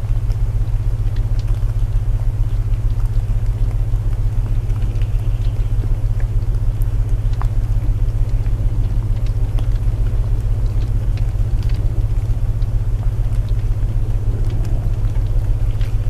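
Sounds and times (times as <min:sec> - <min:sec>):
faint crackles: 0:00.0 - 0:16.0
pulsing low tones: 0:00.0 - 0:16.0
rain hiss: 0:00.0 - 0:16.0.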